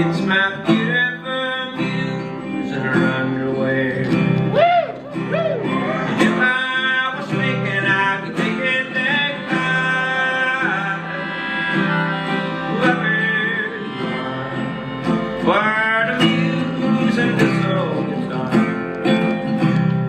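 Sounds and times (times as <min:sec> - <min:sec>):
acoustic band playing: 0:00.0 - 0:20.0
guitar with sliding notes: 0:00.0 - 0:20.0.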